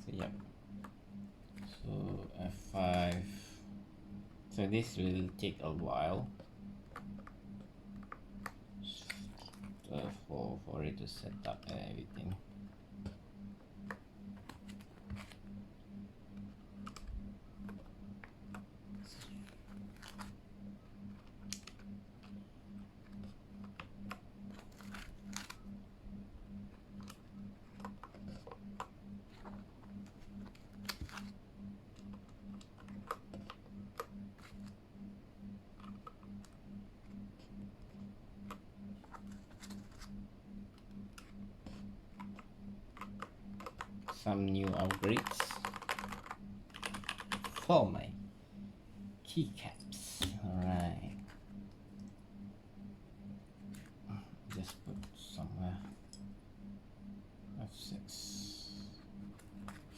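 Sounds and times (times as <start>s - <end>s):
low pulsing hum: 0.0s - 59.9s.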